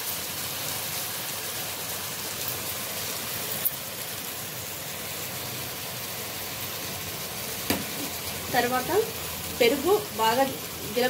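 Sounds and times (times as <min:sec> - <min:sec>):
curry sizzling in a pot: 0:00.0 - 0:11.0.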